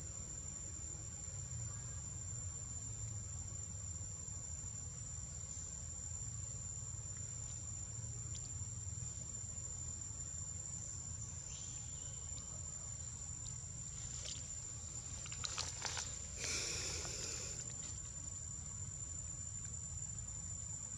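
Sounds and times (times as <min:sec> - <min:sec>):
high-pitched insect trill: 0:00.0 - 0:20.9.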